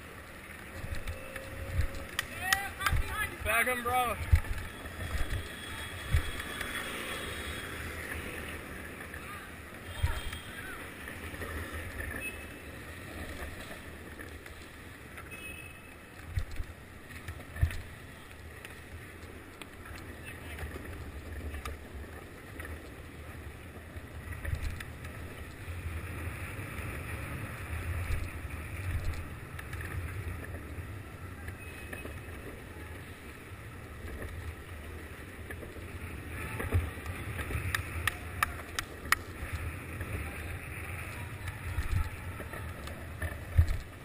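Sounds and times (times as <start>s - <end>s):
skateboard wheels rolling on asphalt: 0.0s - 44.0s.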